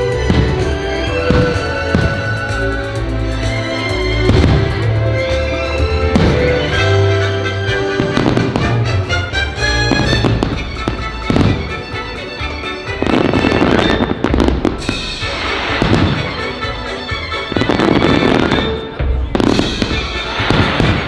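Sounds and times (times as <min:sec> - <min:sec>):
fireworks bursting and crackling: 0:00.0 - 0:21.0
orchestral soundtrack: 0:00.0 - 0:21.0.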